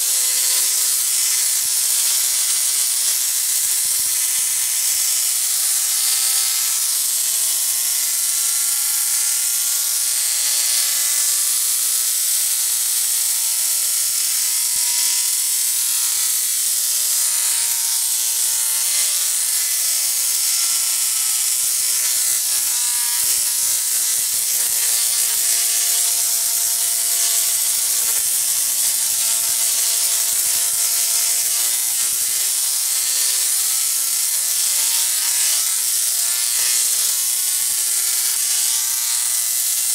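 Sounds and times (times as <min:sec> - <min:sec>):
tesla coil sparks buzzing: 0:00.0 - 0:39.9.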